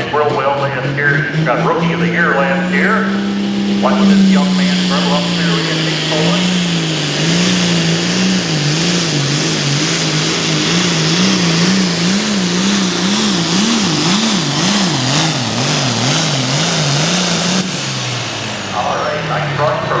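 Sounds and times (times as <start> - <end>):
tractor diesel engine at full load: 0.0 - 20.0.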